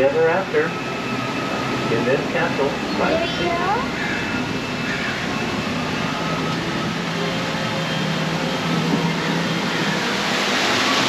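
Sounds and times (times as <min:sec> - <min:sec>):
boat motor humming: 0:00.7 - 0:11.0.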